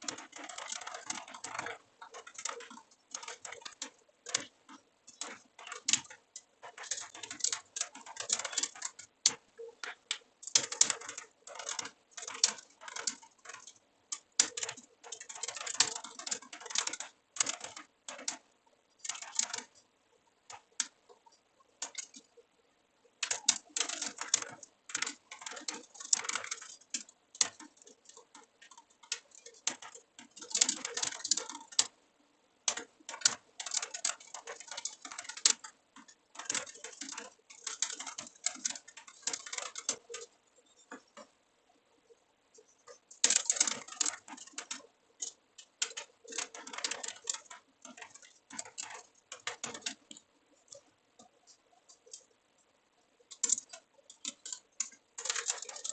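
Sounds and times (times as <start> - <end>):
computer keyboard typing: 0.0 - 55.9.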